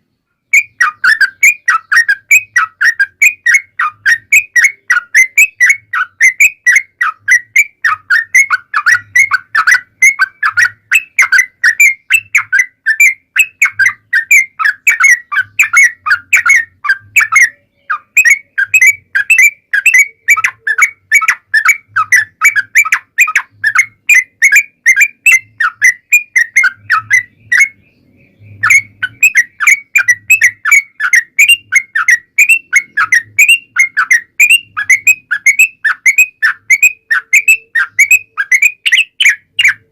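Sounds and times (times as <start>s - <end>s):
bulbul singing chirping whistles: 0.5s - 39.9s.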